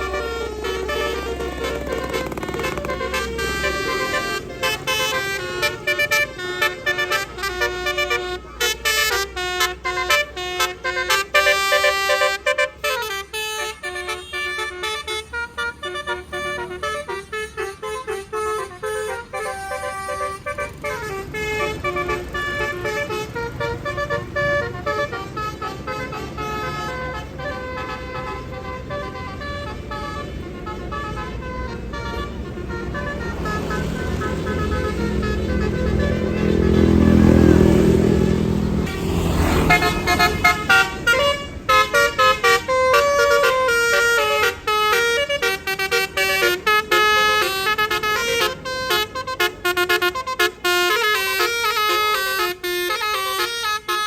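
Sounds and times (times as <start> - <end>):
bus engine rumbling: 0.0 - 54.0
musical bus horn playing tune: 0.0 - 54.0.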